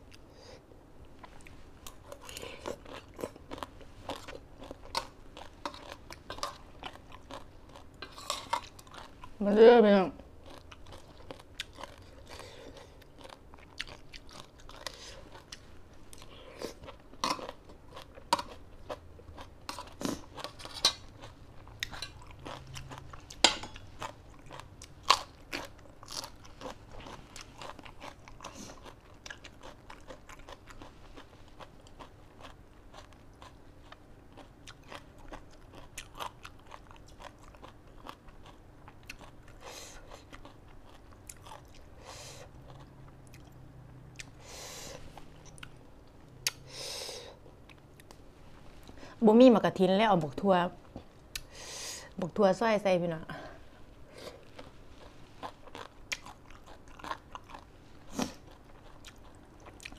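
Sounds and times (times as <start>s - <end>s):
chewing and crunching vegetables: 1.0s - 49.2s, 54.0s - 59.9s.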